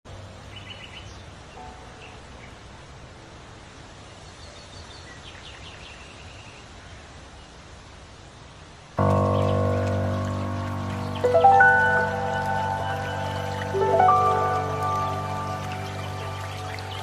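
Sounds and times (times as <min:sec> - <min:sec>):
steady background hiss: 0:00.1 - 0:17.0.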